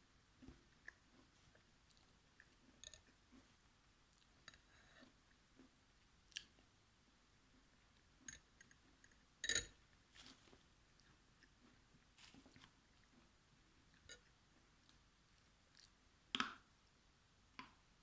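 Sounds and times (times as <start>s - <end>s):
faint chewing: 0.3s - 16.7s.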